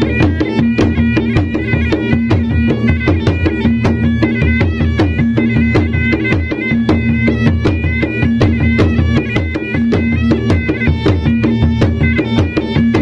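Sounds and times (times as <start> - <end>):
drums beaten fast: 0.0 - 13.0
high melody: 0.0 - 13.0.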